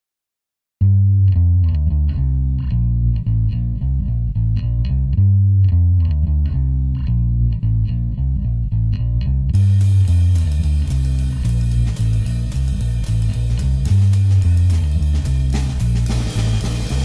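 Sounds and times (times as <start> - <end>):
instrumental music with heavy bass: 0.8 - 17.0.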